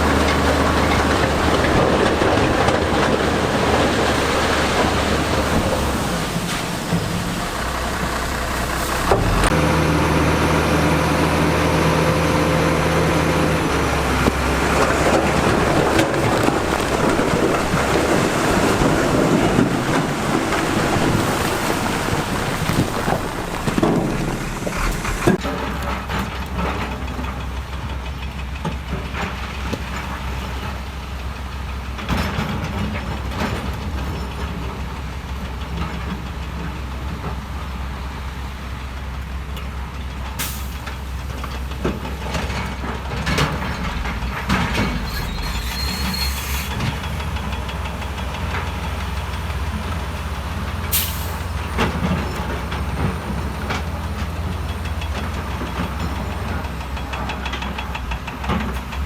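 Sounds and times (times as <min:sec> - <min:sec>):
rock and steel clanking: 0:00.0 - 0:36.8, 0:40.2 - 0:59.0
heavy machinery rumbling: 0:00.0 - 0:59.0.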